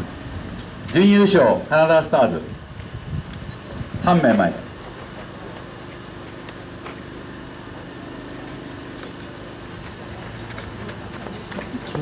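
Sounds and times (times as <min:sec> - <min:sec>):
faint outdoor background noise: 0:00.0 - 0:12.0
low mechanical hum: 0:00.0 - 0:12.0.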